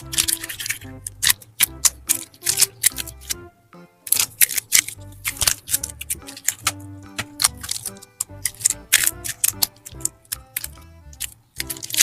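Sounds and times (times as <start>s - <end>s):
slime clicking and crackling: 0.0s - 3.5s, 4.1s - 12.0s
background music sustained notes: 0.0s - 12.0s.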